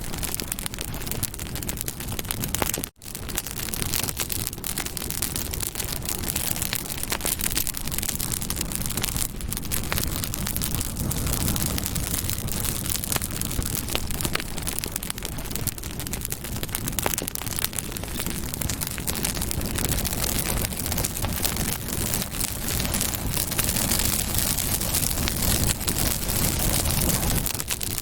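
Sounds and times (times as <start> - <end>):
campfire flames rushing: 0.0 - 28.0
fire crackling: 0.0 - 28.0.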